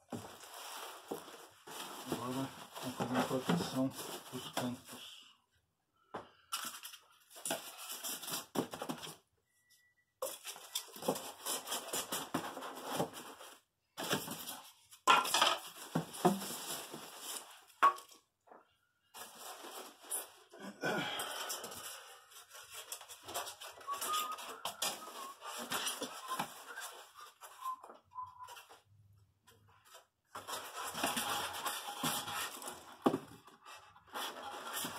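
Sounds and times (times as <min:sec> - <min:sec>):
styrofoam and cardboard rustling: 0:00.0 - 0:05.2, 0:06.6 - 0:09.2, 0:10.3 - 0:17.8, 0:19.1 - 0:20.6, 0:21.3 - 0:29.0, 0:29.6 - 0:34.9.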